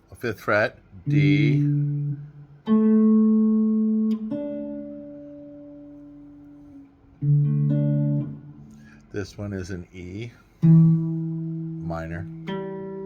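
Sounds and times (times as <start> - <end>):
guitar chords: 0.8 - 9.1, 10.5 - 13.0.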